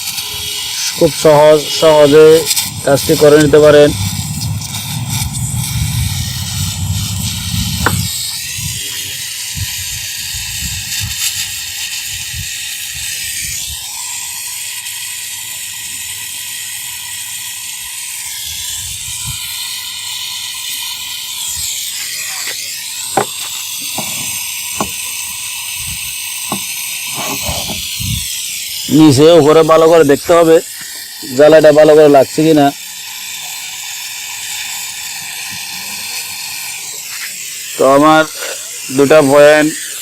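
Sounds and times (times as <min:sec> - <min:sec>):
torch flame hissing: 0:00.0 - 0:40.0.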